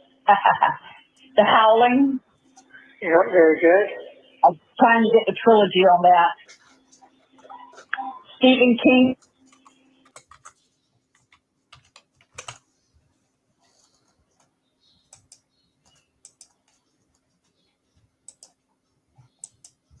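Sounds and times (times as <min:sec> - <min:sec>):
low steady telephone line hum: 0:00.0 - 0:20.0.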